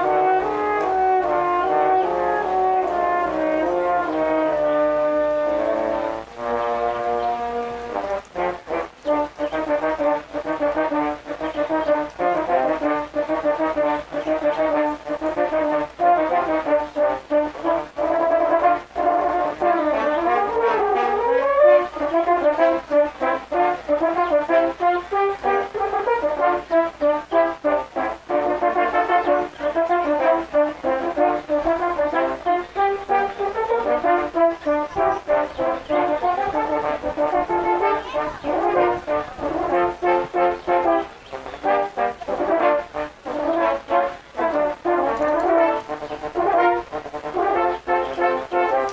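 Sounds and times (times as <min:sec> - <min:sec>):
french horns playing in harmony: 0:00.0 - 0:48.9.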